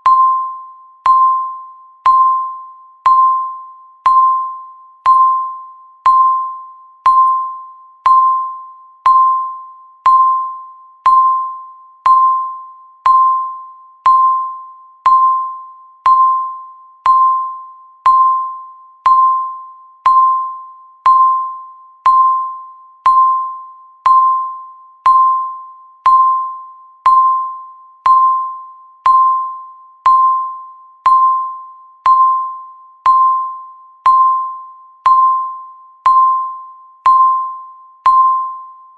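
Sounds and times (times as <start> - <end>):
countdown timer beeps: 0.0 - 38.9.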